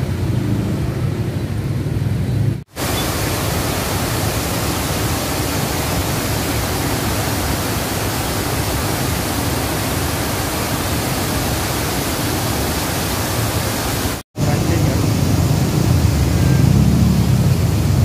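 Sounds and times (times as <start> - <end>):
river water rushing: 2.7 - 18.0.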